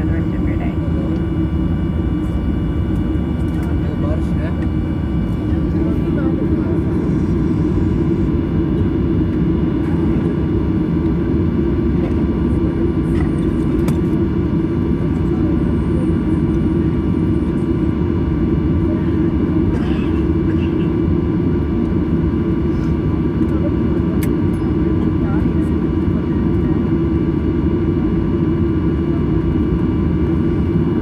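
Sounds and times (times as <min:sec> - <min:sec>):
airliner cabin rumble: 0:00.0 - 0:31.0
faint steady whine: 0:00.0 - 0:31.0.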